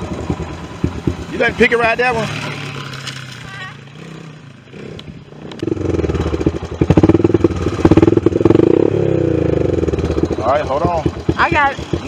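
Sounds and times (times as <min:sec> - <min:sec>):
quad bike engine revving hard: 0:00.0 - 0:12.0.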